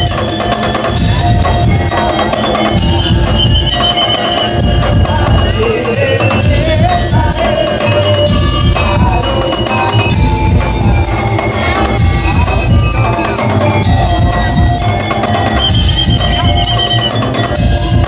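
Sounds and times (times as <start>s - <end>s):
gliding melody line: 0.0s - 18.0s
heavy drums: 0.0s - 18.0s.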